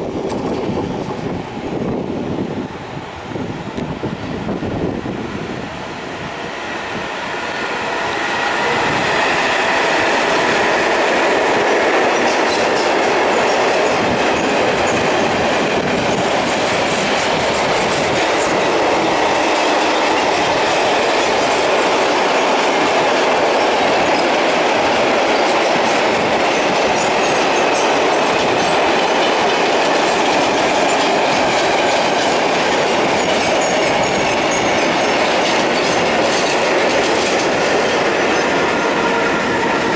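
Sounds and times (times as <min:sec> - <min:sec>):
train rushing past: 0:00.0 - 0:39.9
wheels clacking over rail joints: 0:07.4 - 0:39.9.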